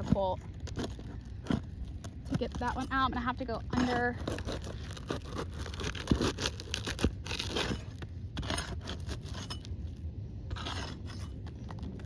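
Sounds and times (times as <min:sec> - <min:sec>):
metal tool scraping shingles: 0:02.3 - 0:12.0.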